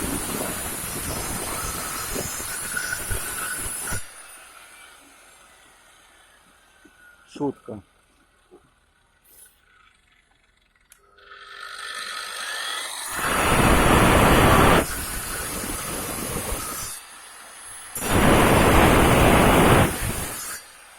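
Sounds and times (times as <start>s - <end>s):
angle grinder running freely: 0.0s - 7.2s, 10.9s - 20.9s
angle grinder cutting brick: 0.0s - 7.5s, 10.9s - 20.9s.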